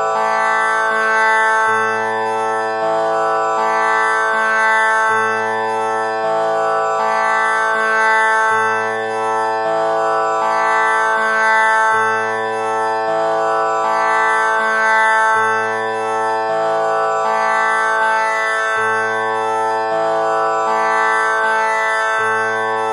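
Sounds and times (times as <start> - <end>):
plucked tanpura drone: 0.0 - 22.9.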